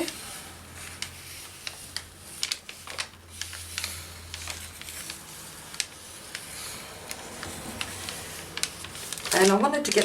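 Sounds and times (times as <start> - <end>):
paper rustling and tapping: 0.0 - 0.2, 0.8 - 10.0.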